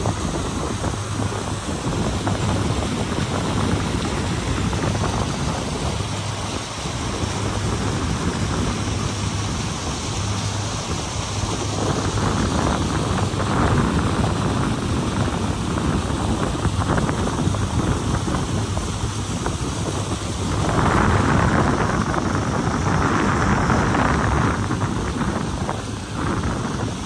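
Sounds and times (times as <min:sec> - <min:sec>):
boat engine drone: 0:00.0 - 0:27.0
wind buffeting microphone: 0:00.0 - 0:27.0.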